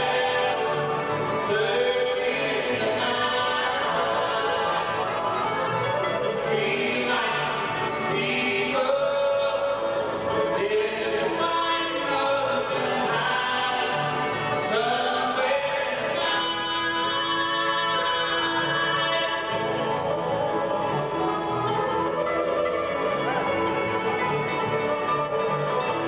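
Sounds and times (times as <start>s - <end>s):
acoustic guitar: 0.0s - 26.0s
banjo: 0.0s - 26.0s
fiddle: 0.0s - 26.0s
mandolin: 0.0s - 26.0s
upright bass: 0.0s - 26.0s
voices singing in harmony: 0.0s - 26.0s.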